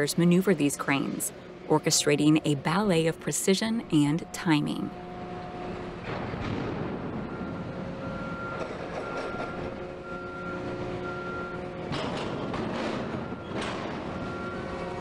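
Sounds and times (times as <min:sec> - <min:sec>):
faint machinery whine: 0:00.0 - 0:15.0
heavy machinery rumbling: 0:00.0 - 0:15.0.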